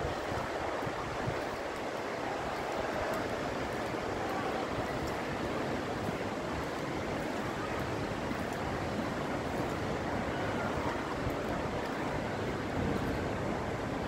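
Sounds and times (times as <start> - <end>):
city hum: 0.0 - 14.0
wind on microphone: 0.0 - 14.0.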